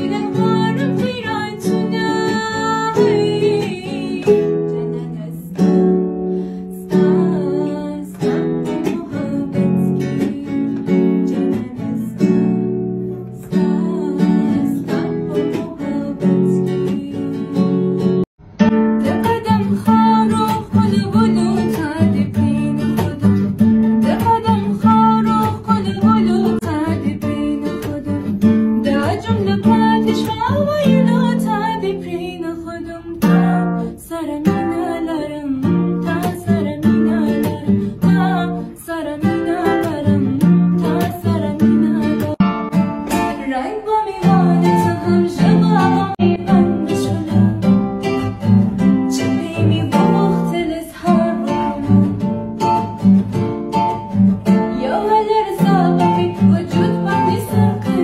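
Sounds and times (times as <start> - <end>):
woman singing: 0.0 - 18.3, 18.9 - 53.0, 53.8 - 58.0
strummed acoustic guitar: 0.0 - 58.0.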